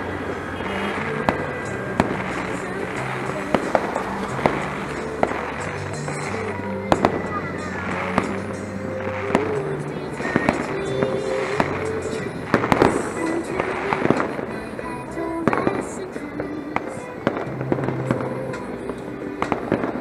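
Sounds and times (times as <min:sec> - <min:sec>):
firecrackers banging and crackling: 0:00.0 - 0:20.0.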